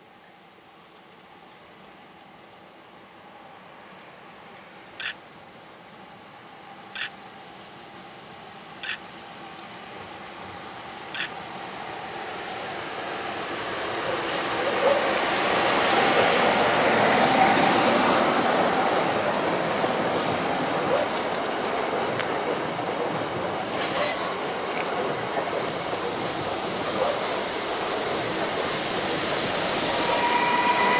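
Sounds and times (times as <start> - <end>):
electric train passing: 6.0 - 30.9.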